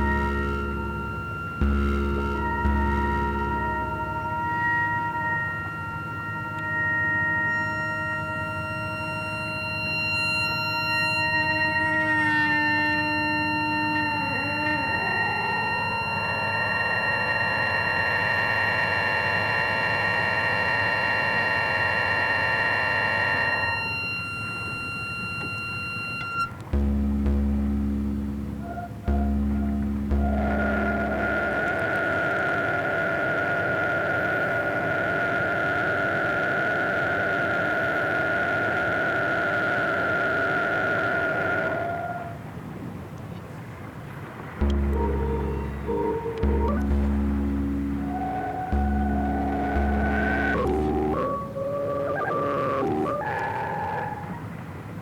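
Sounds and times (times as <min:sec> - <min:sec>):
low synthesizer notes sliding down: 0:00.0 - 0:42.7, 0:44.2 - 0:54.9
buzzy synthesizer drone: 0:00.0 - 0:55.0.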